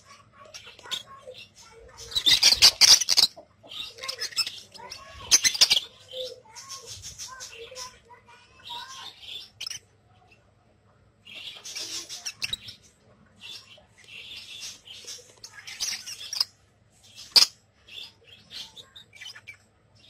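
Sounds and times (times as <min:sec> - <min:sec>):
parrots chattering with high chirps: 0:00.0 - 0:10.6, 0:11.2 - 0:20.0.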